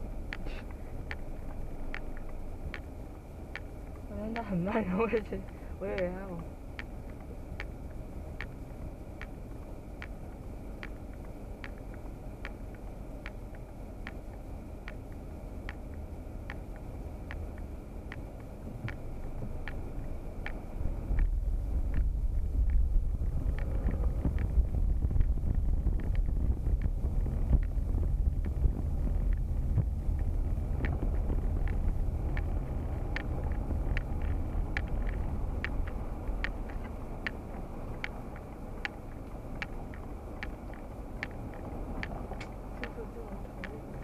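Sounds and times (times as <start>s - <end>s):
car engine and road rumble: 0.0s - 44.0s
light repeated ticking: 0.0s - 44.0s.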